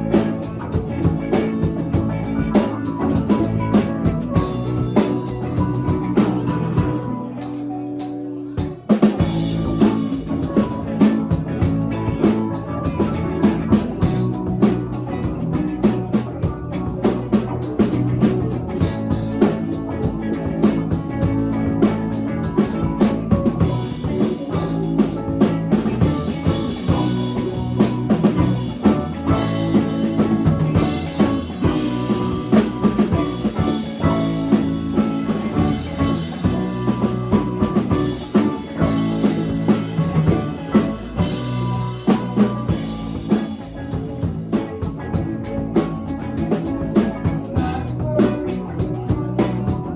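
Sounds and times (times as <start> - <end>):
live band playing: 0.0 - 49.9.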